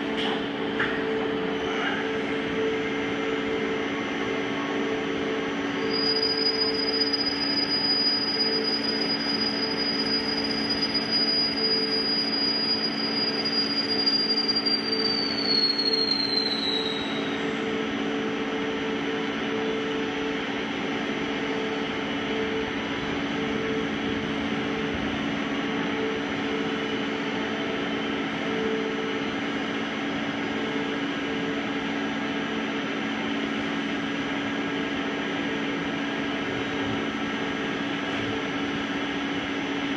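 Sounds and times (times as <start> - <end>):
steady machine hum: 0.0 - 39.9
milling machine spindle whine: 0.5 - 39.9.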